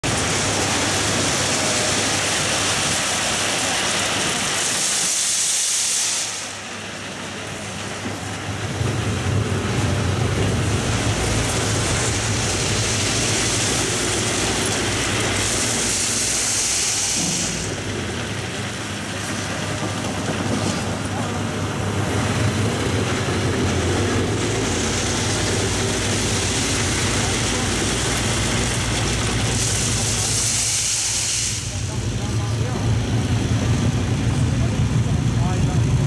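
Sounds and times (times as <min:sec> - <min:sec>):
heavy diesel engine running: 0:00.0 - 0:36.0
hiss: 0:00.1 - 0:08.6, 0:10.6 - 0:21.4, 0:23.1 - 0:34.4.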